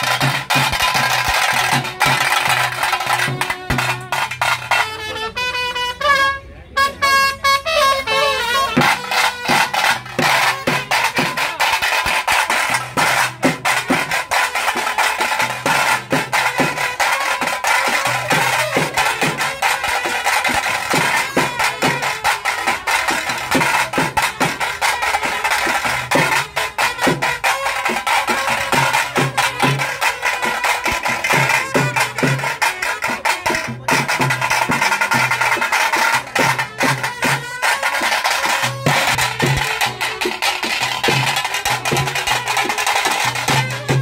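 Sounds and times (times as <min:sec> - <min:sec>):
fast drumming with sticks: 0:00.0 - 0:04.9, 0:08.2 - 0:44.0.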